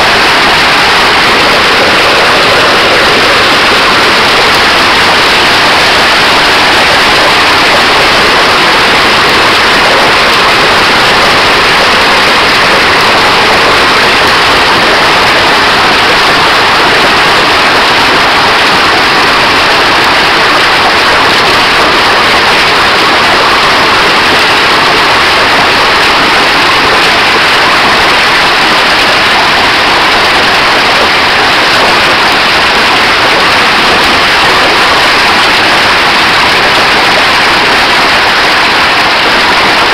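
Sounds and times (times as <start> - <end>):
heavy hail and rain: 0.0 - 39.9.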